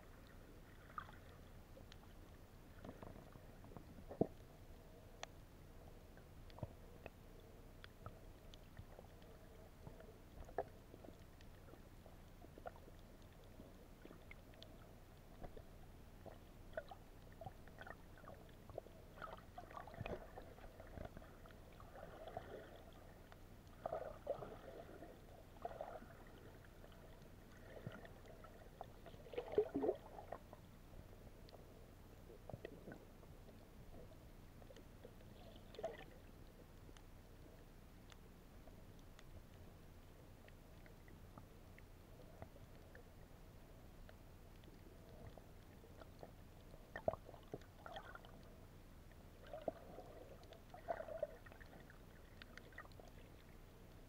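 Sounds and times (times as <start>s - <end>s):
faint underwater clicks: 0.0s - 54.0s
water gurgling swishes: 0.0s - 54.0s.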